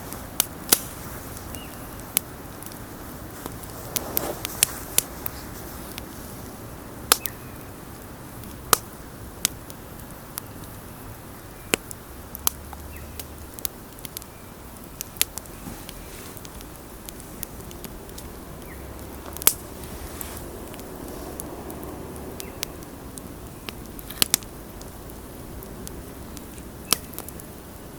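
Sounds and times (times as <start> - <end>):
wood campfire crackling: 0.0 - 27.9.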